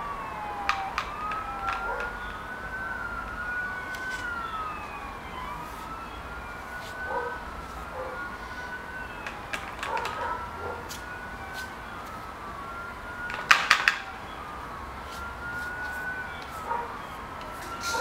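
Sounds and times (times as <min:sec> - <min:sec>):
siren wailing: 0:00.0 - 0:18.0.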